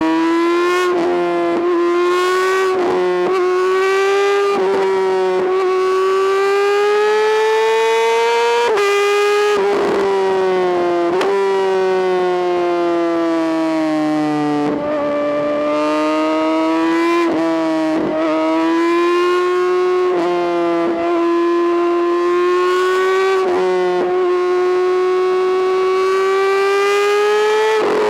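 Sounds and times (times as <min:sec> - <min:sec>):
motorcycle engine howling: 0:00.0 - 0:28.0.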